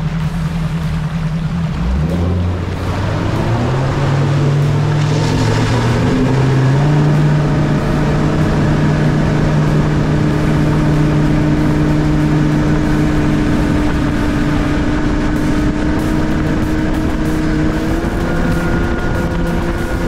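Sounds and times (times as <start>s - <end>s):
outboard engine running: 0.0s - 20.0s
rushing wind and water: 0.0s - 20.0s.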